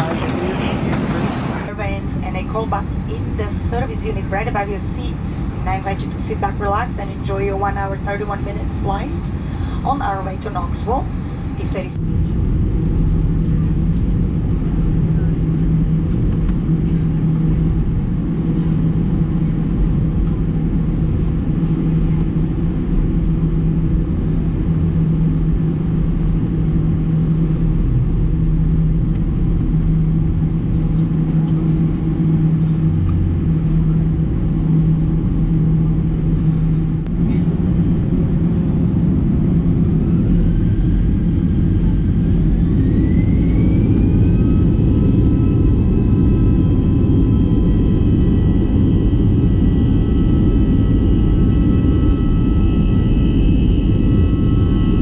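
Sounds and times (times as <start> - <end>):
jet engine low rumble: 0.0 - 55.0
rising whine: 0.0 - 55.0.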